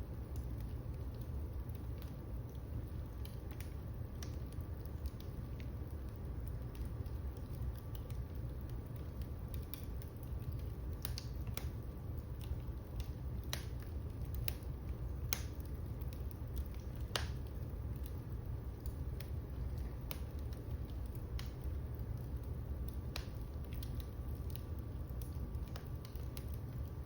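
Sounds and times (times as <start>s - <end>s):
rumble of fire flames: 0.0s - 27.0s
wood fire crackling and popping: 0.0s - 27.0s.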